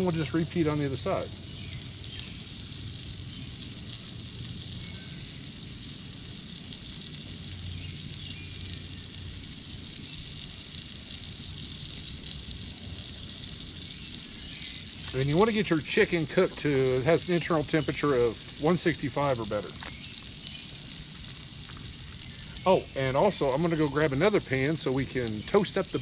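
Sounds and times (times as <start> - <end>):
chicken frying in a skillet: 0.0 - 26.0.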